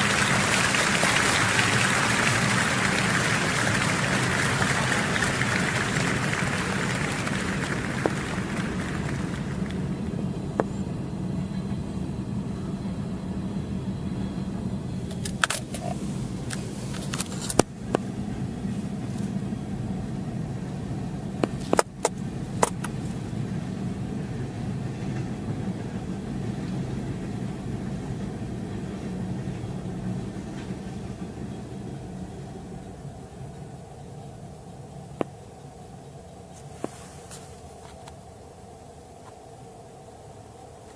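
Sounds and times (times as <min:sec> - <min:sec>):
car engine hum inside cabin: 0:00.0 - 0:33.6.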